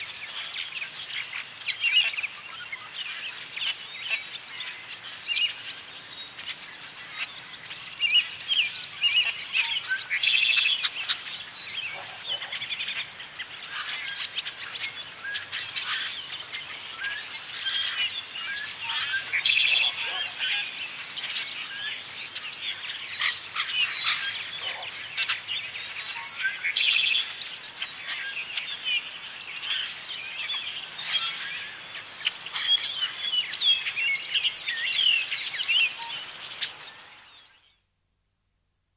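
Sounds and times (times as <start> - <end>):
chorus of birds calling: 0.0 - 37.6.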